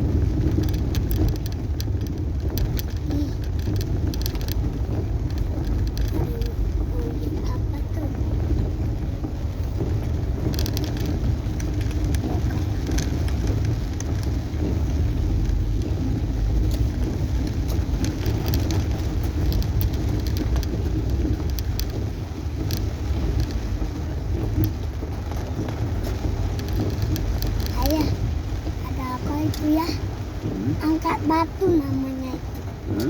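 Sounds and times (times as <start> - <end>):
car driving rumble: 0.0 - 33.0
rain pattering on car roof: 0.0 - 33.0.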